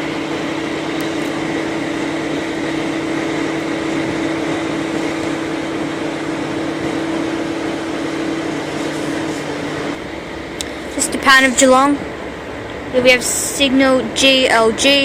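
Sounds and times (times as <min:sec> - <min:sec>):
diesel locomotive idling hum: 0:00.0 - 0:15.0.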